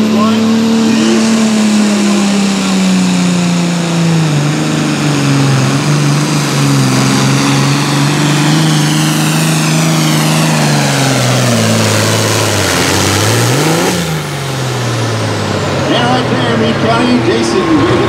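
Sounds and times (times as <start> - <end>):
diesel tractor engine under load: 0.0 - 18.0
high turbo whine: 0.0 - 18.0.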